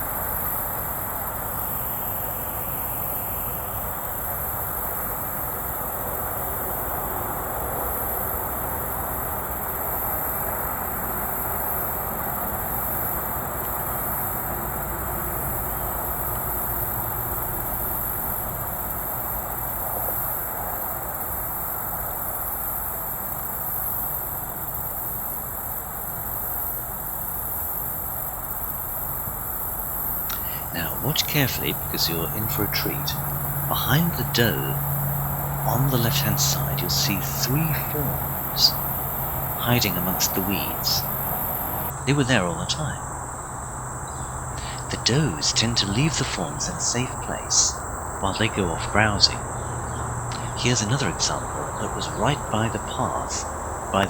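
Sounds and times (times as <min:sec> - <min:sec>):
distant highway traffic hum: 0:00.0 - 0:54.0
insects droning: 0:00.0 - 0:54.0.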